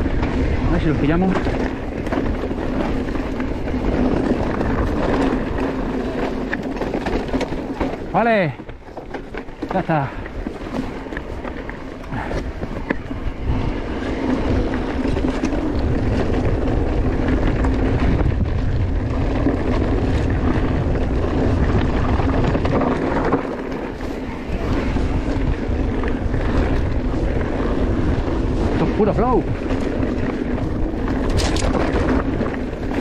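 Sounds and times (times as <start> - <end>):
bike clattering over rocks: 0.0 - 33.0
wind rush on microphone: 0.0 - 33.0.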